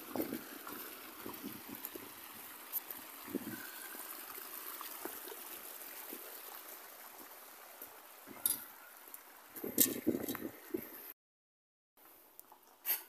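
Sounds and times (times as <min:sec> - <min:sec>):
running water hiss: 0:00.0 - 0:11.1.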